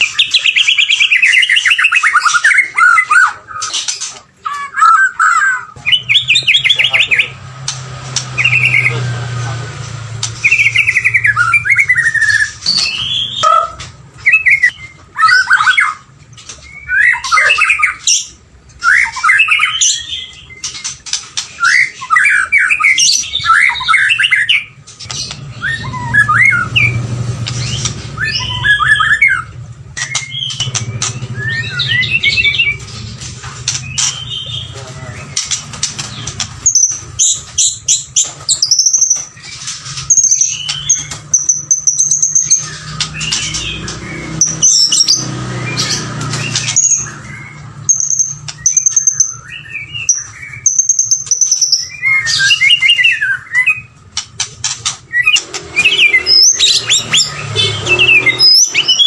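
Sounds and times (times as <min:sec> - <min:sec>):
bird singing whistled trills: 0:00.0 - 0:03.7, 0:08.3 - 0:09.0, 0:10.4 - 0:32.9, 0:36.6 - 0:54.0, 0:55.1 - 0:59.0.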